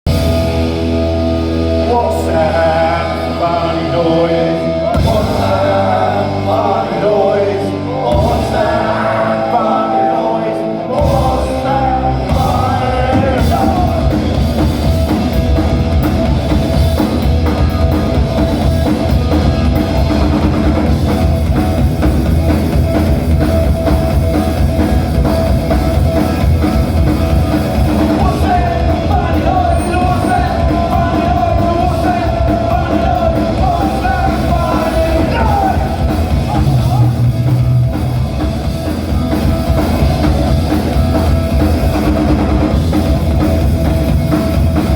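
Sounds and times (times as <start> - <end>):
punk rock band playing live: 0.0 - 44.9.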